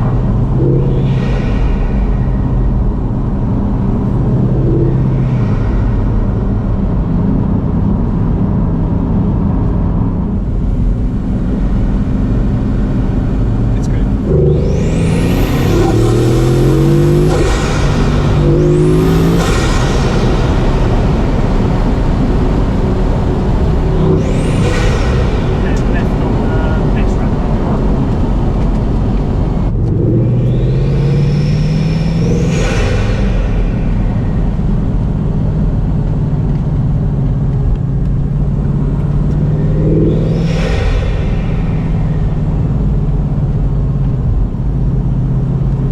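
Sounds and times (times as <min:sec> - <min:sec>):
high turbo rushing sound: 0:00.0 - 0:36.9, 0:38.2 - 0:45.9
car engine accelerating hard: 0:00.0 - 0:45.9
road rumble: 0:00.0 - 0:45.9.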